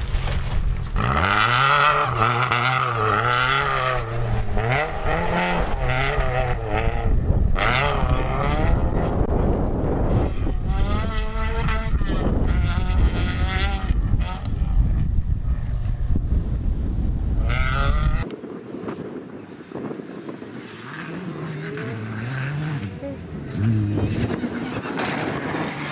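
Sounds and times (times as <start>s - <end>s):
rally car engine revving: 0.9s - 16.2s, 17.4s - 18.3s, 20.5s - 25.9s.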